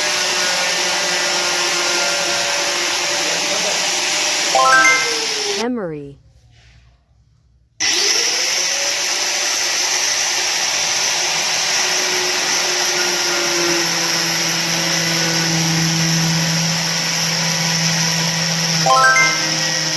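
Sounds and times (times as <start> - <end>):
electric grinder whining: 0.0 - 5.6, 7.8 - 19.9.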